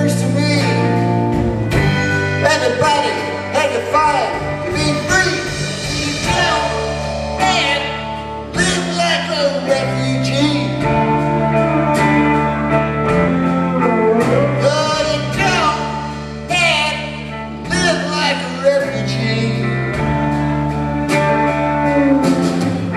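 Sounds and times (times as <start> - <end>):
bass: 0.0 - 22.9
drums: 0.0 - 22.9
electric guitar: 0.0 - 22.9.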